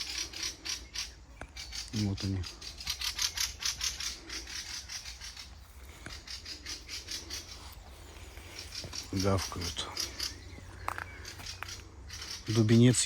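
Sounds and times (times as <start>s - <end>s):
birds rasping chattering calls: 0.0s - 13.0s.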